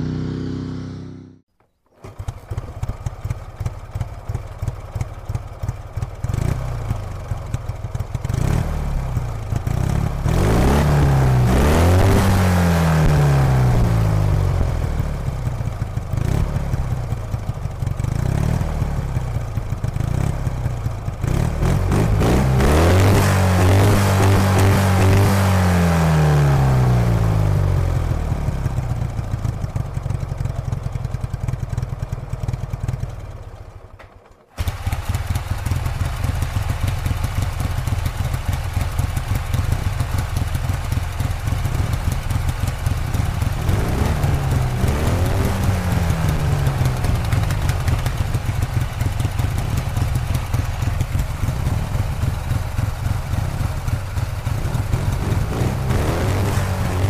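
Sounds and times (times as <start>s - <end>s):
motorcycle engine revving: 0.0s - 57.0s
motorcycle engine running steadily: 0.0s - 57.0s.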